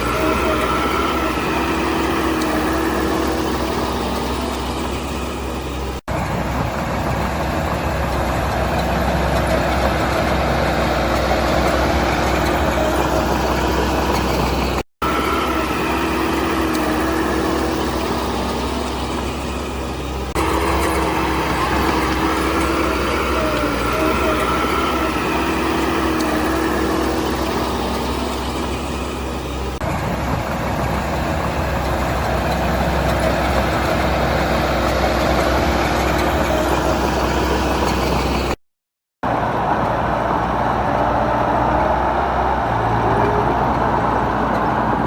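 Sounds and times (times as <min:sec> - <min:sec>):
diesel machinery engine hum: 0:00.0 - 0:38.6, 0:39.2 - 0:45.0.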